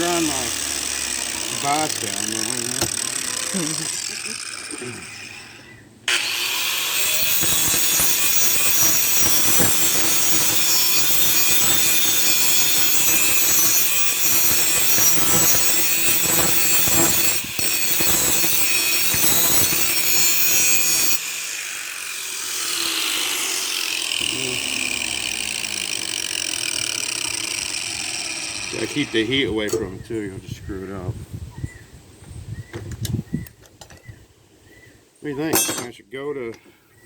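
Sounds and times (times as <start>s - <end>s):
power grinder grinding steel: 0.0s - 29.8s.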